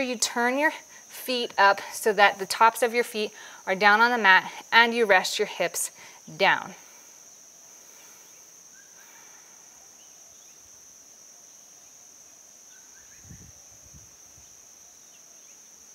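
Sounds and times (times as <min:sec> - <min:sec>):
insect drone: 0:00.0 - 0:15.9.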